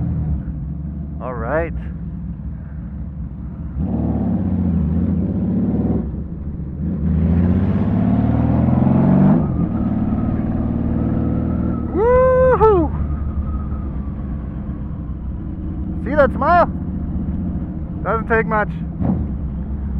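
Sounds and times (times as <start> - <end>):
motorcycle engine accelerating: 1.8 - 19.9.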